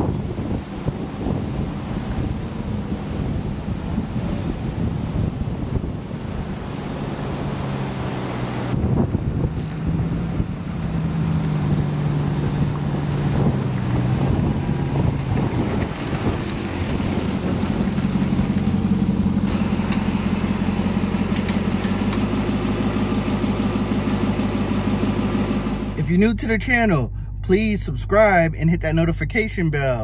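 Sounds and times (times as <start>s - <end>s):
truck engine driving past: 0.8s - 29.6s.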